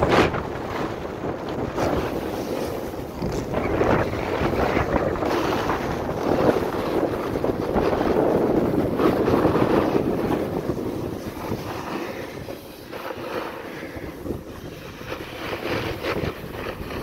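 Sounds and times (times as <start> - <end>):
snowboard scraping over snow: 0.0 - 17.0
wind rushing over microphone: 0.0 - 17.0.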